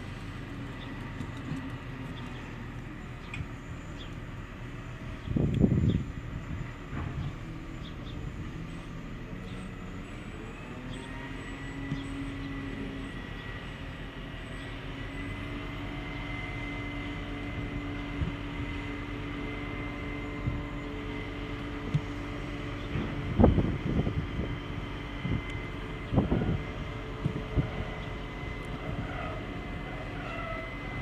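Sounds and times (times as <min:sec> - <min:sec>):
drone rotors humming: 0:00.0 - 0:31.0.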